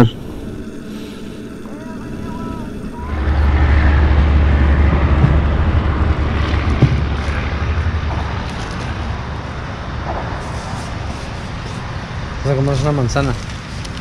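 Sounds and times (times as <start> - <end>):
wind and motorcycle engine rumble: 0.0 - 14.0.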